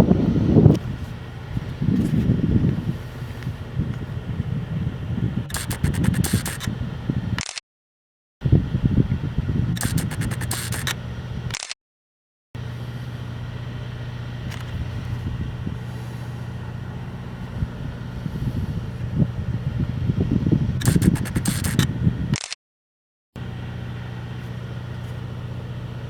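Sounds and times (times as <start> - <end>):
vehicle engine running: 0.0 - 7.4, 8.5 - 11.6, 12.6 - 22.3, 23.4 - 26.0.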